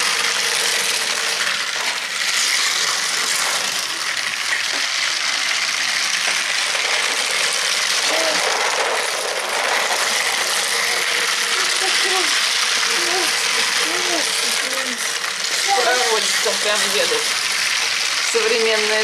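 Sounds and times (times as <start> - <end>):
toy car motors whirring: 0.0 - 19.0
wheels clattering over plastic track: 0.0 - 19.0.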